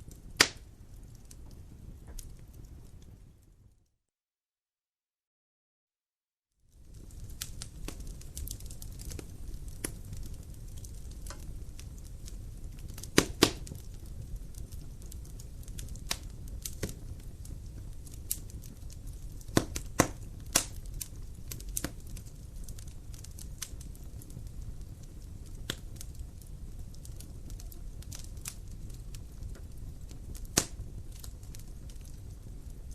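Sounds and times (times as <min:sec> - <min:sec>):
wood fire crackling and popping: 0:00.0 - 0:03.8, 0:06.6 - 0:32.9.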